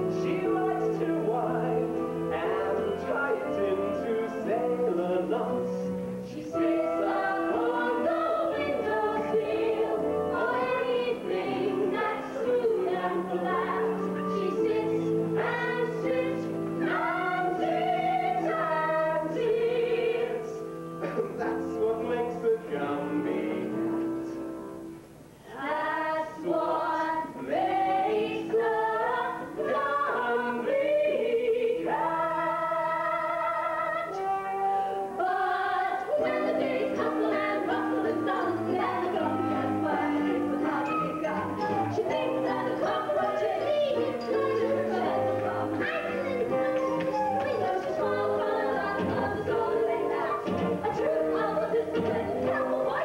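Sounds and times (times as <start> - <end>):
singing voices: 0.0 - 53.0.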